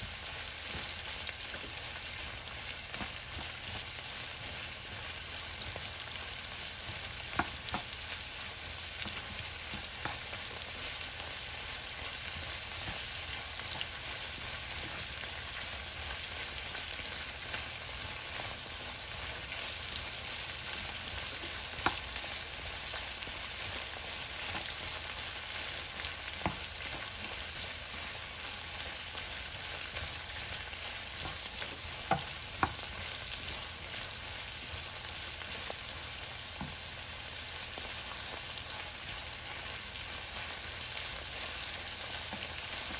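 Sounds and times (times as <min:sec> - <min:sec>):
spatula stirring vegetables: 0:00.0 - 0:42.9
vegetables sizzling in a pan: 0:00.0 - 0:42.9.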